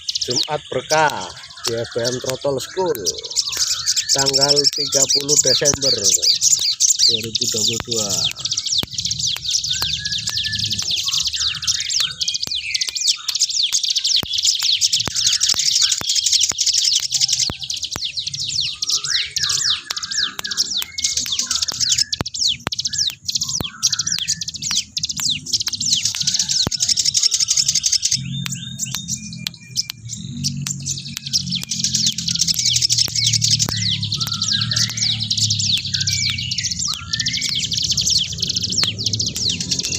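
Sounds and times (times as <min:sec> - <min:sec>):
bird rapid high chirps and trills: 0:00.0 - 0:39.9
lower bird call notes: 0:00.0 - 0:39.9.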